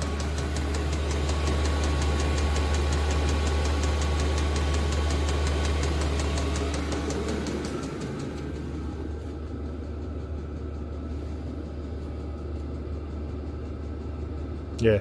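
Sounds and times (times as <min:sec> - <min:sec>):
fuel pump ticking: 0:00.0 - 0:14.3
heater blower fan hum: 0:00.0 - 0:15.0.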